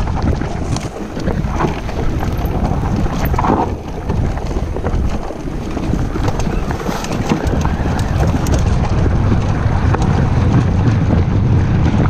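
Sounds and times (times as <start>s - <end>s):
bike rattling and knocking: 0.0s - 12.0s
bike tyres rumbling on dirt: 0.0s - 12.0s
wind buffeting microphone: 0.0s - 12.0s.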